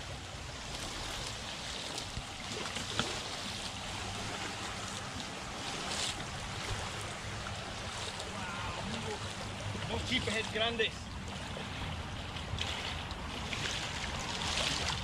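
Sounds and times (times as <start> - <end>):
water lapping at shoreline: 0.0 - 15.0.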